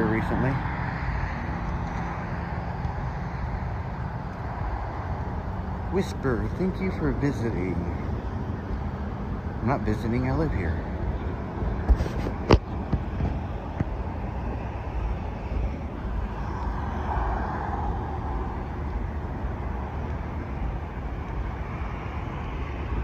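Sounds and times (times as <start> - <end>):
vehicle passing: 0.0 - 23.0
wind rumble on microphone: 0.0 - 23.0.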